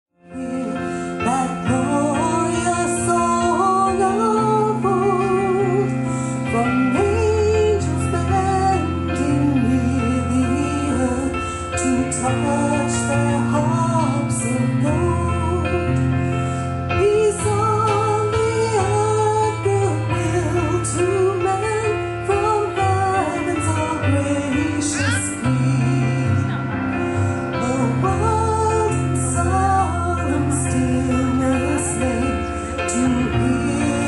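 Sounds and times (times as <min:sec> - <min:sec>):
instrumental backing: 0:00.2 - 0:34.0.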